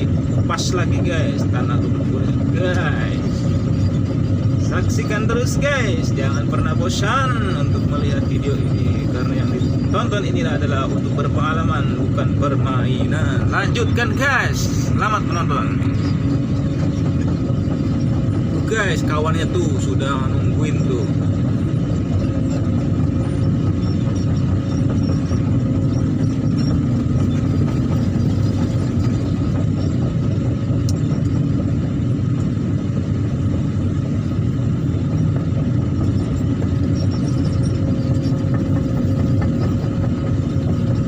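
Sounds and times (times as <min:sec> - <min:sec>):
diesel engine idling: 0:00.0 - 0:41.0
faint steady whine: 0:00.0 - 0:41.0.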